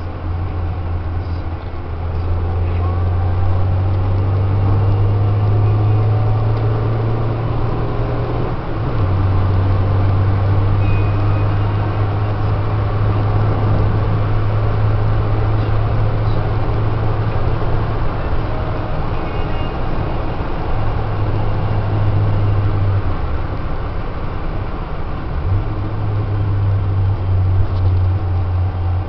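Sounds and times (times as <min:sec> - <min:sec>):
car engine drone: 0:00.0 - 0:29.0
tyre and road noise: 0:00.0 - 0:29.0.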